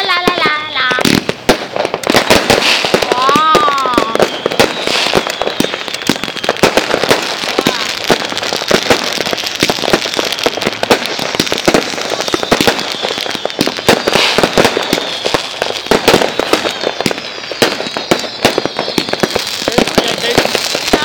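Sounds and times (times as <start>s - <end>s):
fireworks popping and banging: 0.0s - 21.0s
high falling firework whistles: 0.0s - 21.0s.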